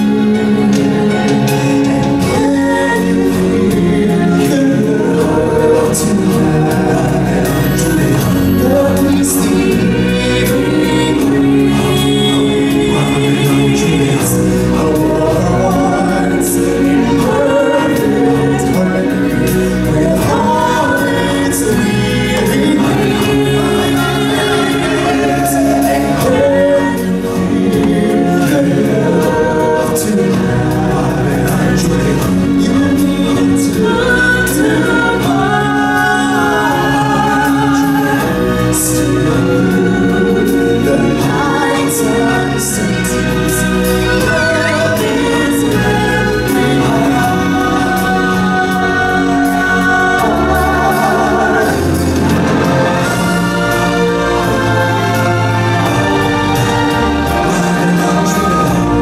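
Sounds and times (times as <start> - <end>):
instrumental backing: 0.0 - 59.0
singers with choir chorus: 0.0 - 59.0.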